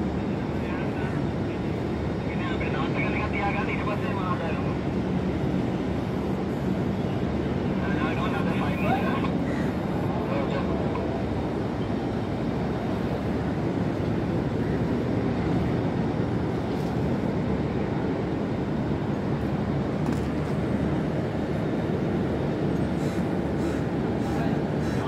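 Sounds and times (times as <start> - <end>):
ship engines rumbling: 0.0 - 25.0.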